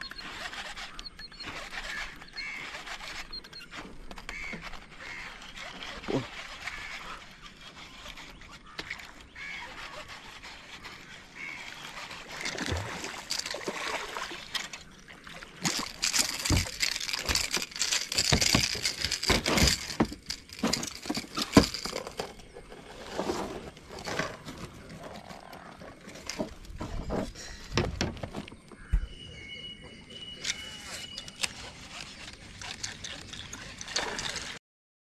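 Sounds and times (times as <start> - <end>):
water splashing and sloshing: 0.0 - 29.0, 29.8 - 34.6.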